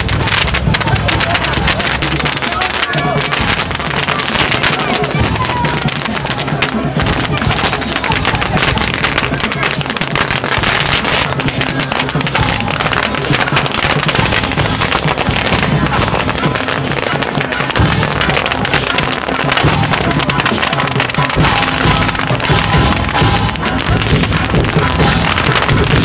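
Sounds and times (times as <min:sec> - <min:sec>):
firecrackers banging: 0:00.0 - 0:26.0
music playing: 0:00.0 - 0:26.0.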